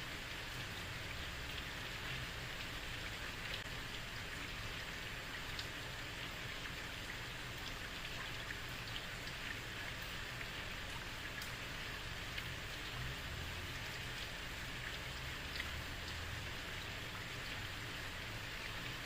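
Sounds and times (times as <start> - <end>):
heavy rain on a street: 0.0 - 19.0.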